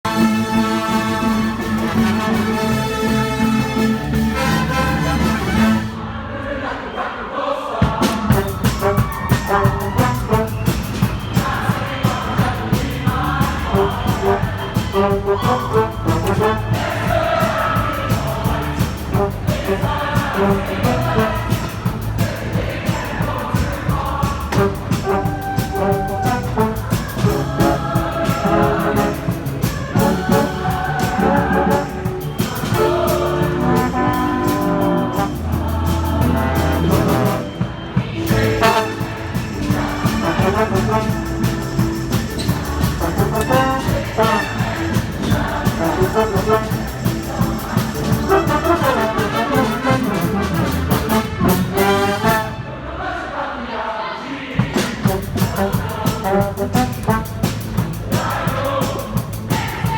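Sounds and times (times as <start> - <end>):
band with brass section playing: 0.0 - 6.3, 7.8 - 53.1, 54.6 - 59.9.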